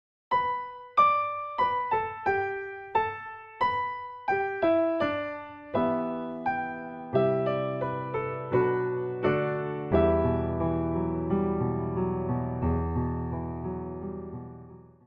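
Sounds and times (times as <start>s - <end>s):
slow piano melody: 0.3s - 15.0s.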